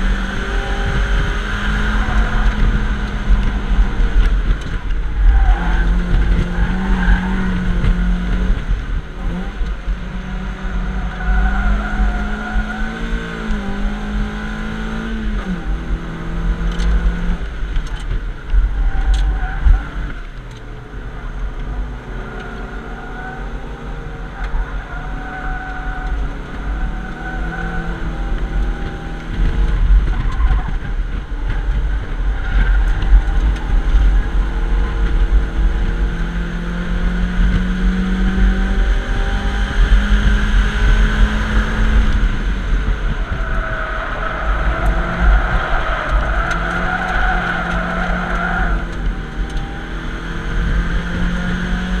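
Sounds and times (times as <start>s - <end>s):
car engine revving: 0.0s - 52.0s
wind and road noise: 0.0s - 52.0s.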